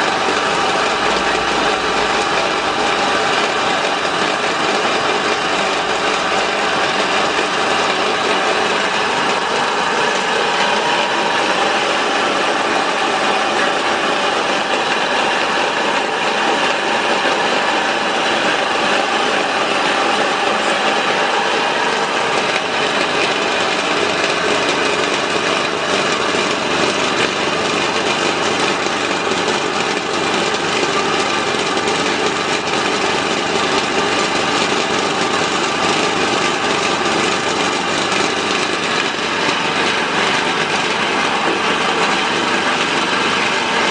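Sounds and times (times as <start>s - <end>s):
feed mill motor whirring: 0.0s - 43.9s.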